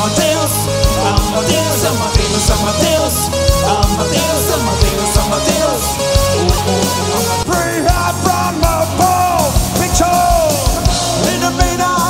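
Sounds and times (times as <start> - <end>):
band music: 0.0 - 12.0
sliding melodic line: 0.0 - 12.0.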